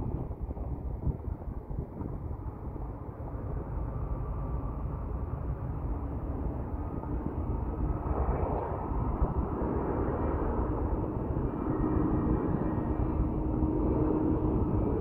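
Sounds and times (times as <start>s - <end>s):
wind on microphone: 0.0s - 15.0s
road traffic: 2.8s - 15.0s.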